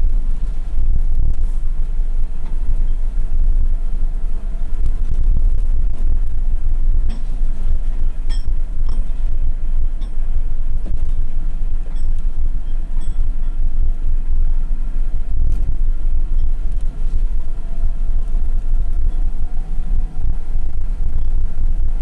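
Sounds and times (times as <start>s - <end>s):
diesel engine drone: 0.0s - 22.0s
road rumble on gravel: 0.0s - 22.0s.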